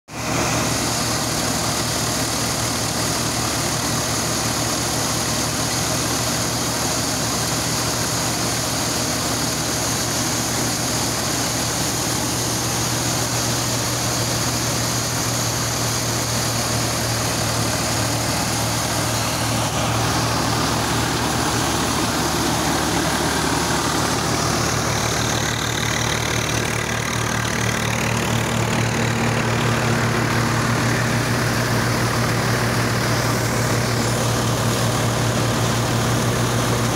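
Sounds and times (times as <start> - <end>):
thresher drum and fan whirring: 0.1 - 36.9
tractor engine humming: 0.1 - 36.9.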